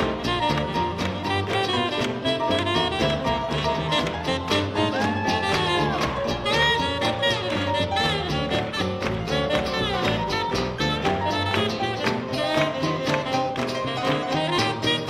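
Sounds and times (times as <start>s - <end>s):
swing jazz band playing: 0.0s - 15.0s.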